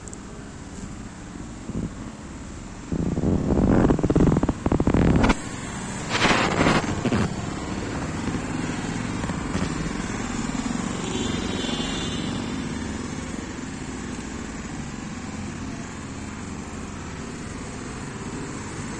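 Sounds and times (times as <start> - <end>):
road traffic hum: 0.0 - 18.9.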